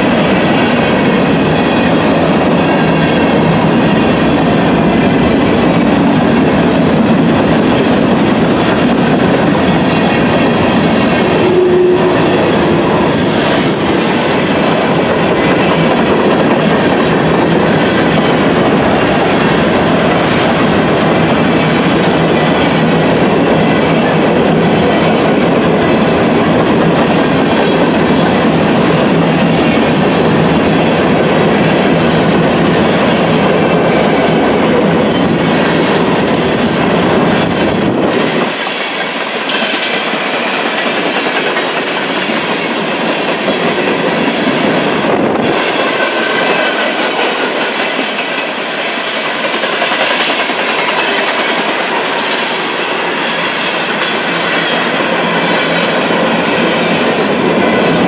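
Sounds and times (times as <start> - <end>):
freight train cars rolling on rails: 0.0 - 58.0.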